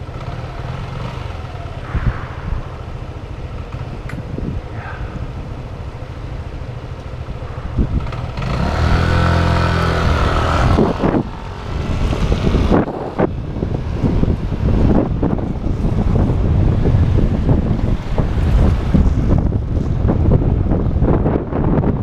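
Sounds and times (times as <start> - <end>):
motor vehicle passing close: 0.0 - 20.5
bicycle riding rumble and hiss: 0.0 - 22.0.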